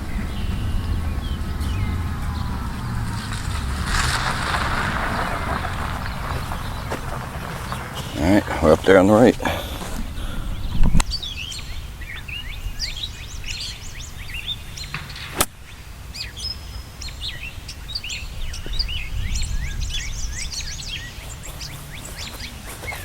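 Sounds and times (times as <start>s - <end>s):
wind rumble on microphone: 0.0s - 15.0s, 17.0s - 23.0s
birds chirping: 0.0s - 23.0s.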